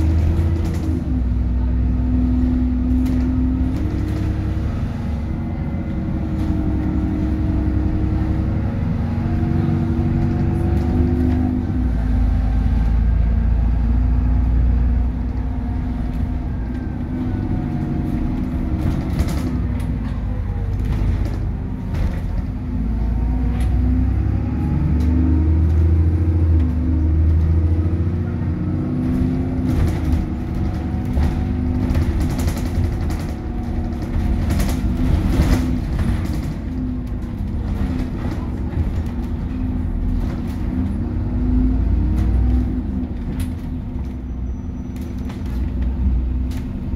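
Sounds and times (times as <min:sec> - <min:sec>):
bus body rattles and knocks: 0:00.0 - 0:46.9
bus diesel engine rumble: 0:00.0 - 0:46.9.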